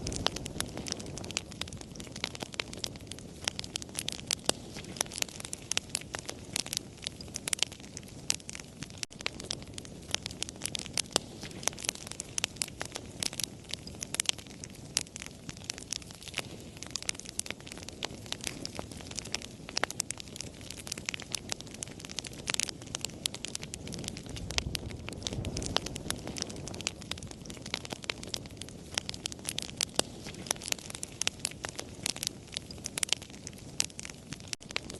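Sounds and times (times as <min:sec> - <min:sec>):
campfire crackling: 0:00.0 - 0:34.9
low rush of flames: 0:00.0 - 0:34.9.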